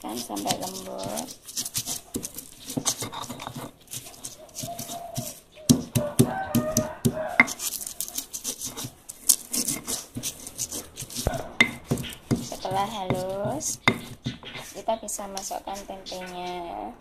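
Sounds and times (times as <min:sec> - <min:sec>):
stone pestle grinding in mortar: 0:00.0 - 0:16.4.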